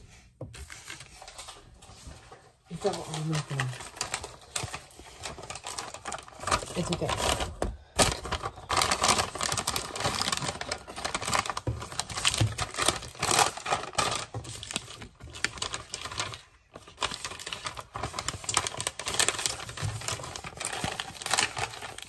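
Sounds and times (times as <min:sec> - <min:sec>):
plastic packaging crinkling: 0:00.6 - 0:22.0.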